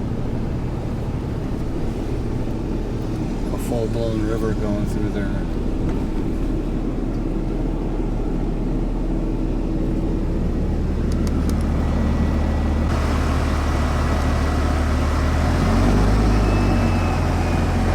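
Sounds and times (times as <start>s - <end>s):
car engine and road hum: 0.0s - 17.9s.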